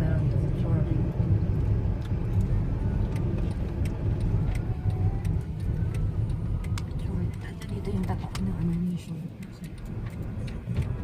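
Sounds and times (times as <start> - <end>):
car driving rumble from inside: 0.0 - 11.0.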